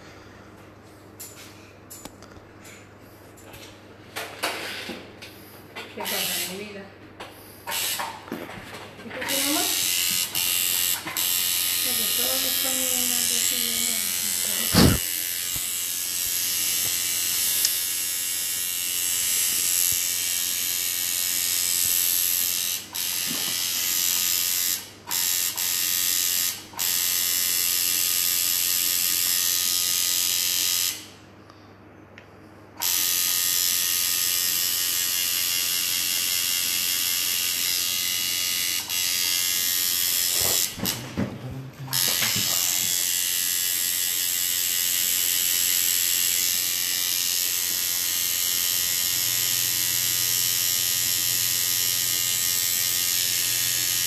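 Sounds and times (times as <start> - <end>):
tattoo machine buzzing: 6.0 - 6.8, 7.6 - 8.3, 9.2 - 31.2, 32.8 - 41.2, 41.9 - 54.0.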